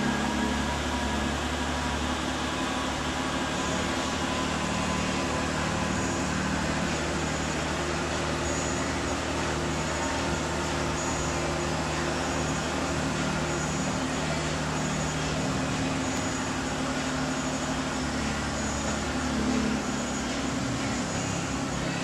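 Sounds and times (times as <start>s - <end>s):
faint steady tones: 0.0s - 22.0s
mechanical hum: 0.0s - 22.0s.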